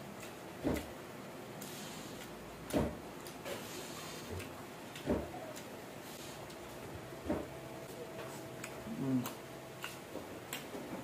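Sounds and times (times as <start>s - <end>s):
man chewing food: 0.0s - 11.0s.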